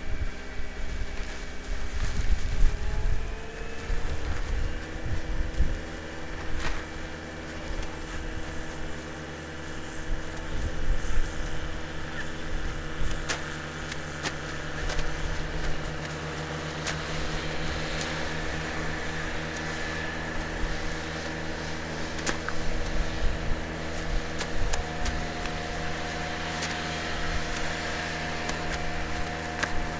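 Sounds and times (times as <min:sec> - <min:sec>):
farm machine engine running: 0:00.0 - 0:29.9.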